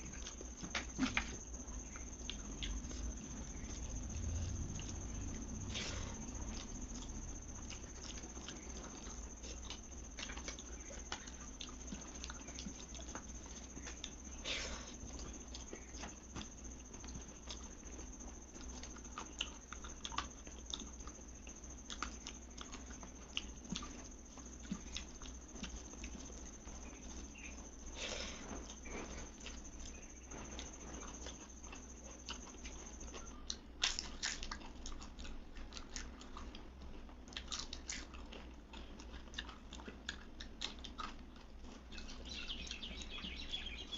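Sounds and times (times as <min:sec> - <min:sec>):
wet chewing with mouth clicks: 0:00.0 - 0:43.9.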